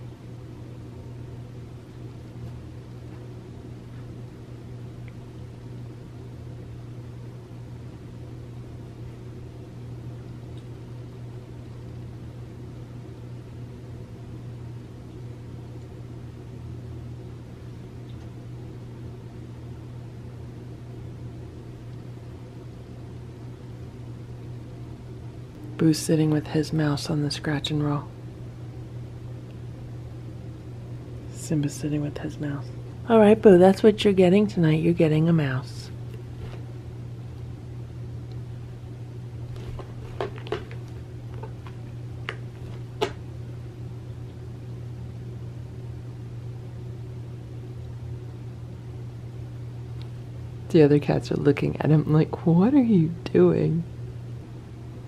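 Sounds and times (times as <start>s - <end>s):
low hum with faint hiss: 0.0s - 55.0s.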